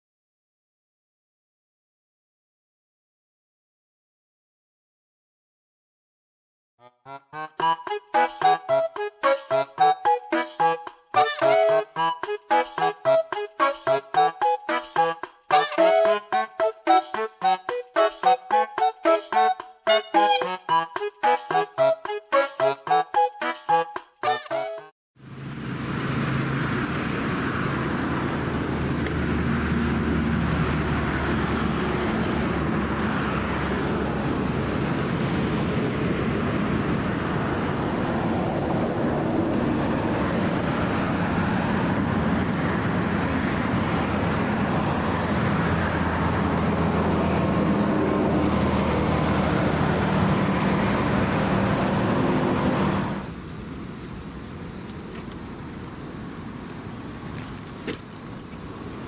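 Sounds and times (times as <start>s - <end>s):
road traffic rumble: 7.4s - 23.8s, 25.2s - 59.0s.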